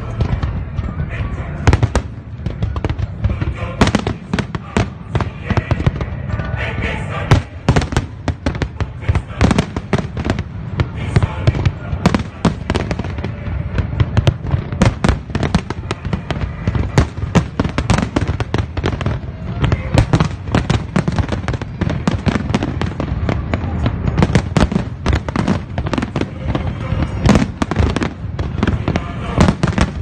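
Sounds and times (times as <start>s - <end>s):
fireworks bursting with sharp bangs: 0.0s - 30.0s.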